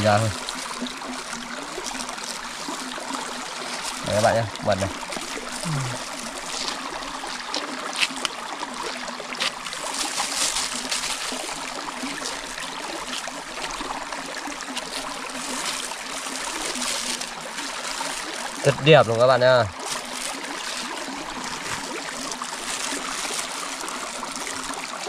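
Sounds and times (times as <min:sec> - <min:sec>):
stream water running: 0:00.0 - 0:25.0.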